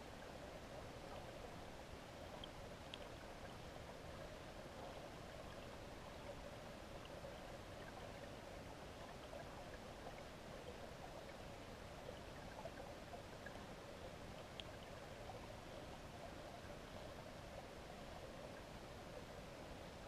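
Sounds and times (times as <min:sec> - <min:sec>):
faint ticks: 0:00.4 - 0:20.0.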